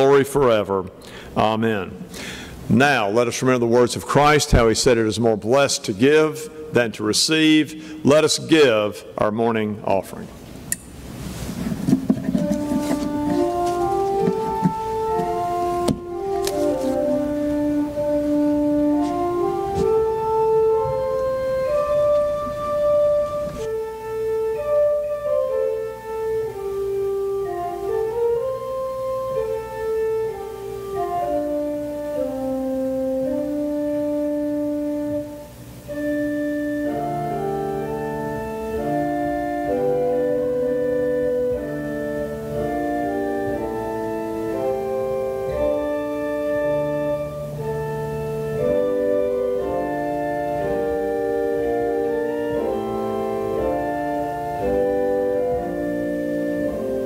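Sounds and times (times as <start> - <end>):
church organ playing slow music: 0.0 - 57.0.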